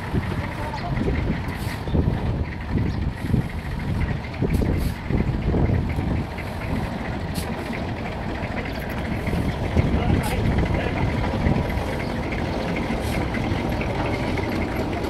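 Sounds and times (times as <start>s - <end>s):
diesel construction machinery rumbling: 0.0s - 15.0s.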